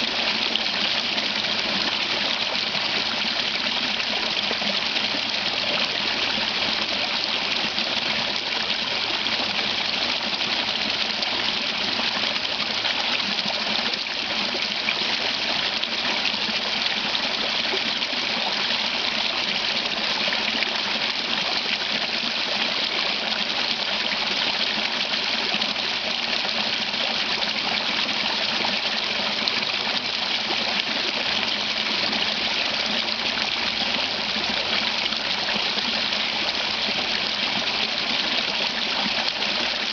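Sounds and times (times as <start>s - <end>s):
water rushing over small waterfall: 0.0s - 39.9s.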